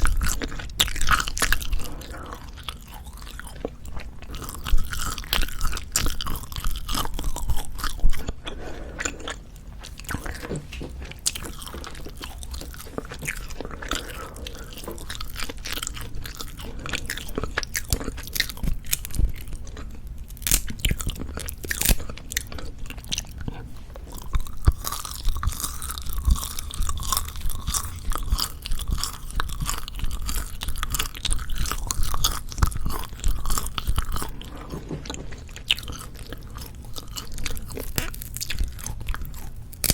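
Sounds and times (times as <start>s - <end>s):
chewing dried meat: 0.0s - 39.9s.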